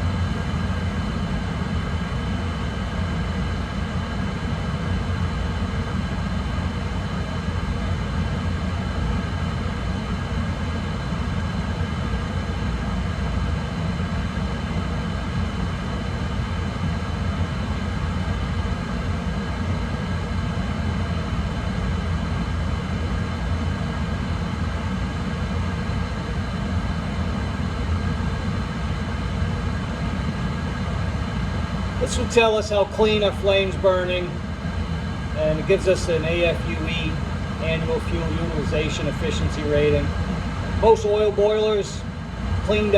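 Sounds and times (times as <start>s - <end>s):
boiler burner rumbling: 0.0s - 42.9s
faint high whine: 0.0s - 42.9s.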